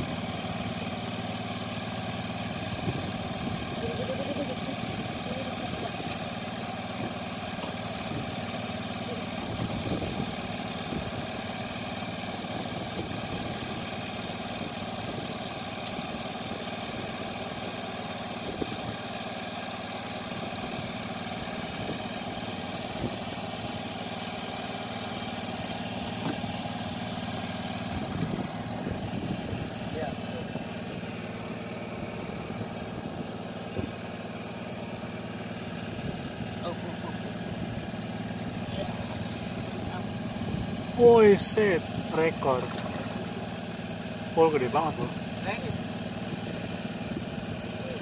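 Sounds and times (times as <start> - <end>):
boat engine humming: 0.0 - 48.0.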